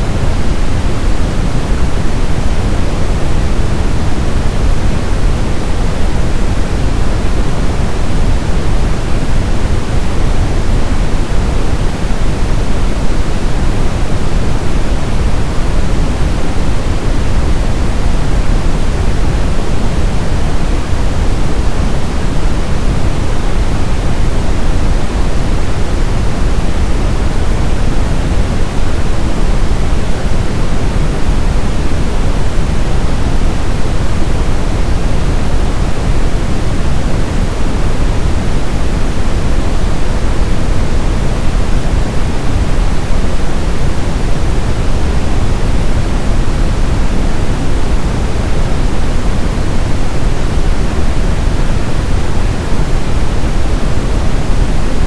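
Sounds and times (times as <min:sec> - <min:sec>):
brown noise: 0:00.0 - 0:55.0.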